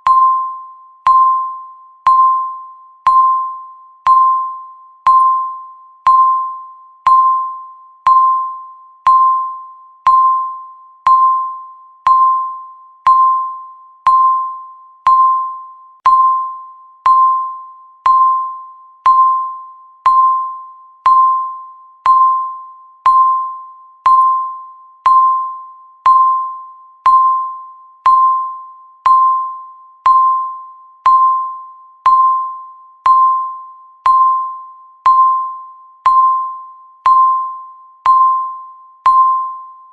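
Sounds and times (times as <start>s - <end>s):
timer beep: 0.0s - 39.9s.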